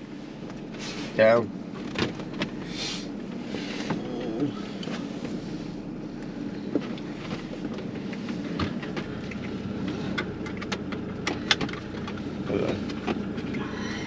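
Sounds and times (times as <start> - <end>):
van engine running: 0.0 - 14.0.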